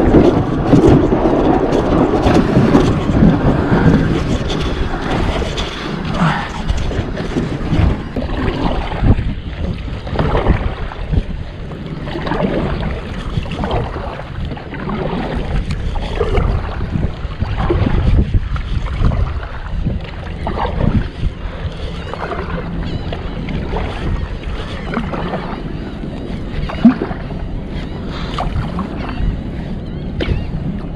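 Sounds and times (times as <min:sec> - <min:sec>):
paddle splashing in water: 0:00.0 - 0:29.3
wind buffeting microphone: 0:00.0 - 0:30.9.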